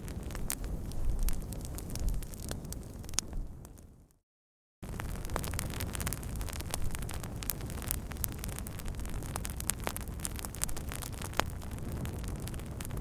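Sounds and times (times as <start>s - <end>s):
fire crackling and popping: 0.0s - 4.2s, 4.8s - 13.0s
wood fire burning: 0.0s - 4.2s, 4.8s - 13.0s.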